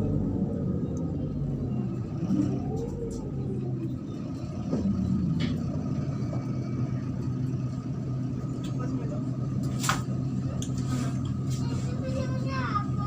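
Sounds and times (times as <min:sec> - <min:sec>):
bus diesel engine droning: 0:00.0 - 0:13.0
ride rumble: 0:00.0 - 0:13.0.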